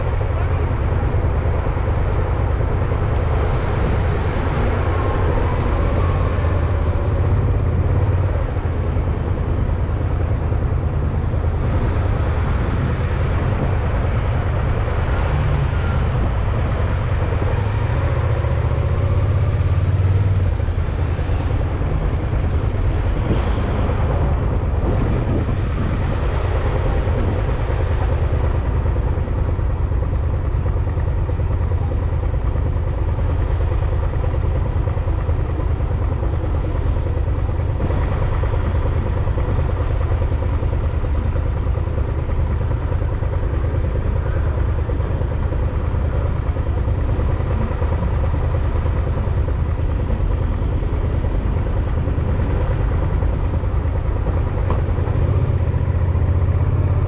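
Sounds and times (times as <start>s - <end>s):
road noise rumble: 0.0s - 57.0s.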